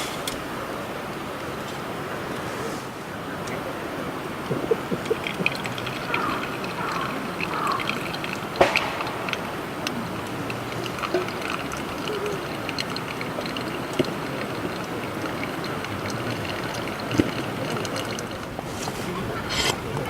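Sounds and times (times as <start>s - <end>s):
running water: 0.3s - 20.0s.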